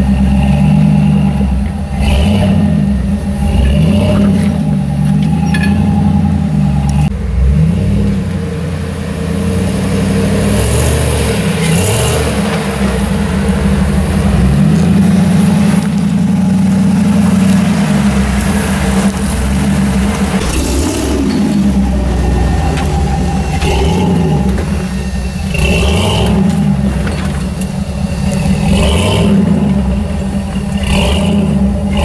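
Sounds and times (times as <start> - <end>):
engine revving under load: 0.0 - 32.0.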